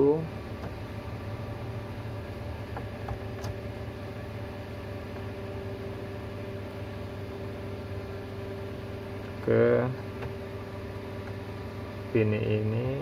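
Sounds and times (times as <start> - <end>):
amplifier hum and hiss: 0.0 - 13.0
cooling fan: 0.0 - 13.0.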